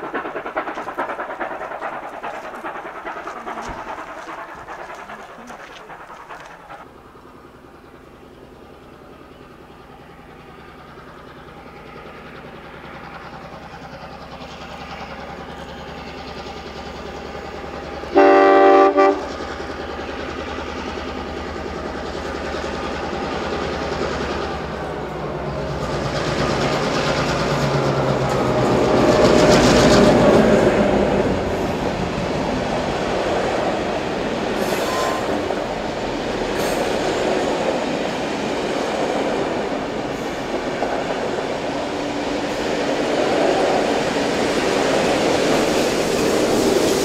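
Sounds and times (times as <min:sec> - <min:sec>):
diesel locomotive passing: 0:00.0 - 0:47.0
steam locomotive passing: 0:00.0 - 0:47.0
train wheel clatter: 0:00.0 - 0:47.0.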